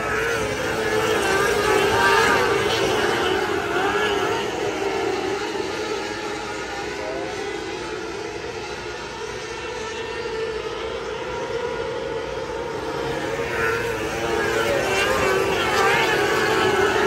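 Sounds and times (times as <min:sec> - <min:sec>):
racing cars high-revving engines: 0:00.0 - 0:17.0.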